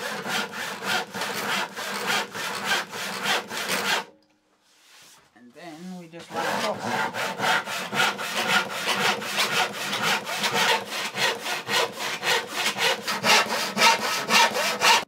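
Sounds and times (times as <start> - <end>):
hand saw cutting wood: 0.0 - 4.2, 6.1 - 15.0.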